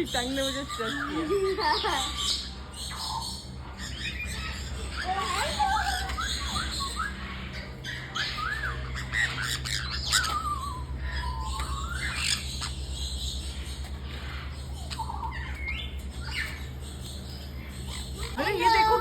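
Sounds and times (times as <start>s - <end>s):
steady low hum: 0.0s - 19.0s
parrot whistles and squawks: 0.3s - 19.0s.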